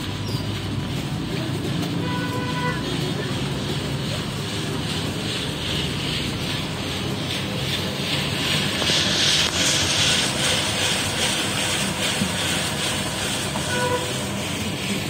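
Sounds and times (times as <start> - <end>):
traffic hum with hiss: 0.0 - 15.0.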